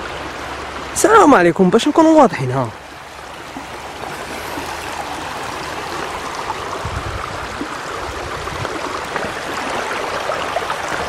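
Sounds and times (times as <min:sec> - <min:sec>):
floodwater rushing and gurgling: 0:00.0 - 0:11.0.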